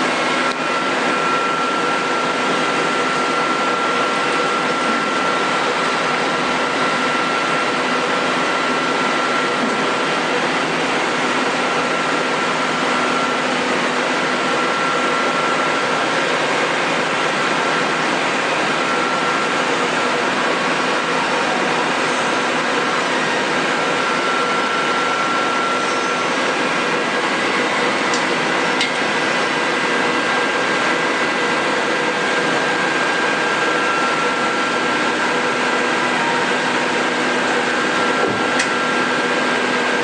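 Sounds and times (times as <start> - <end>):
high steady whine: 0.0 - 40.0.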